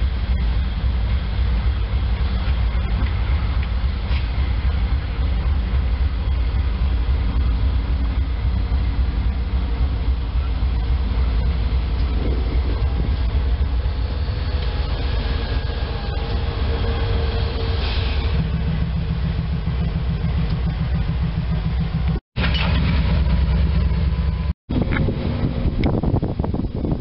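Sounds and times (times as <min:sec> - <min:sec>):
diesel locomotive engine rumble: 0:00.0 - 0:27.0.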